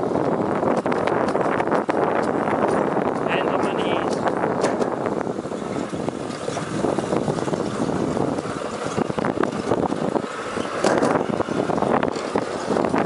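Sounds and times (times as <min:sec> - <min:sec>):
wind buffeting microphone: 0:00.0 - 0:13.0
sled rolling on metal track: 0:00.1 - 0:13.0.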